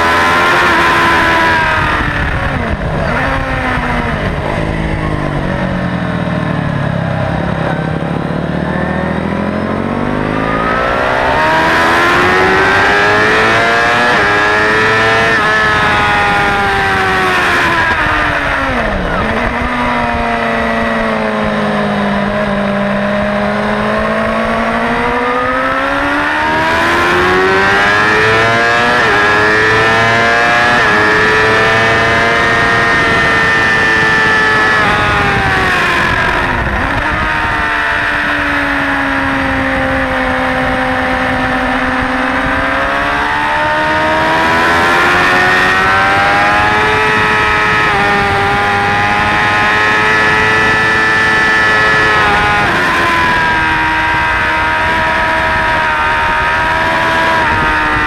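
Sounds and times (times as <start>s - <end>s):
motorcycle engine revving through gears: 0.0s - 58.0s.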